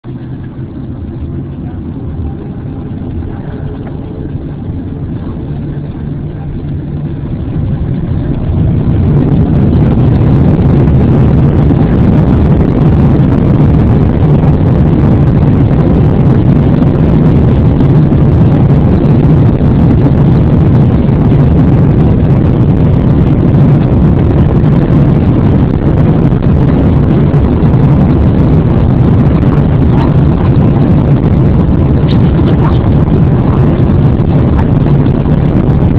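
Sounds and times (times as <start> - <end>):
jet engines roaring: 0.0 - 35.9.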